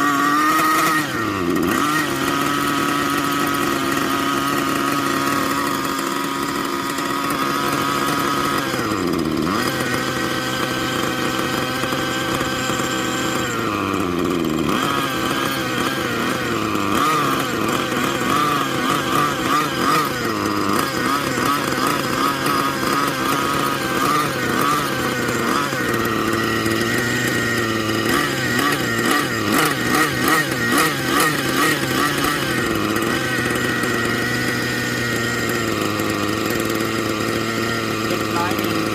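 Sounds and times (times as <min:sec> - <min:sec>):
model helicopter engine buzzing: 0:00.0 - 0:38.9.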